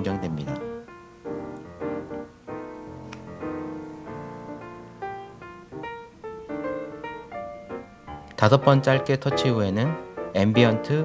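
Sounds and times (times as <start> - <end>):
piano notes and chords: 0.0 - 11.0.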